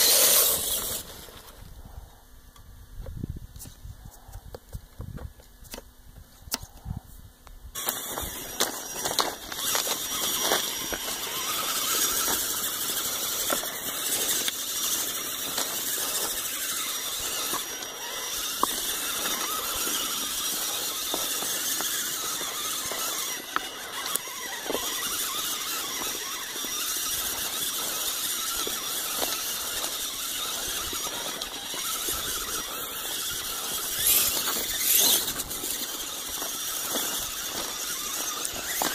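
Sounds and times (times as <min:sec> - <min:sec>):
electric motors whining: 0:00.0 - 0:02.0, 0:07.8 - 0:38.9.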